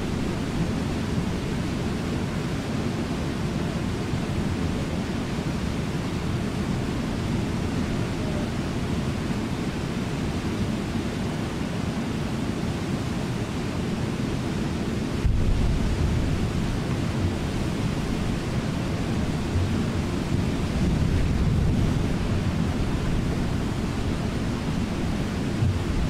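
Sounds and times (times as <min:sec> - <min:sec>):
waterfall and river rapids rushing: 0:00.0 - 0:26.0.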